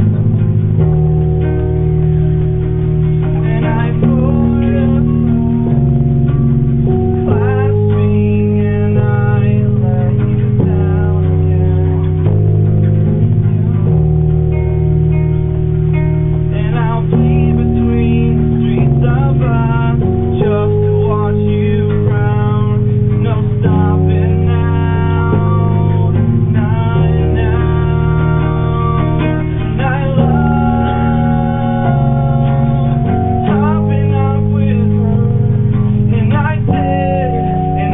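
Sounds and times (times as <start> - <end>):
person singing: 3.2 - 12.3, 16.4 - 37.9.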